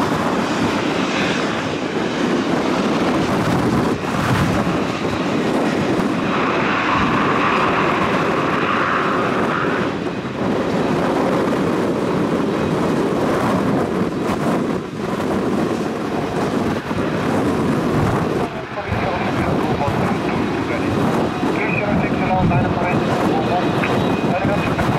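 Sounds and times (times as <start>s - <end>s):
turboprop engine and propeller: 0.0s - 24.9s
wind buffeting microphone: 0.0s - 24.9s.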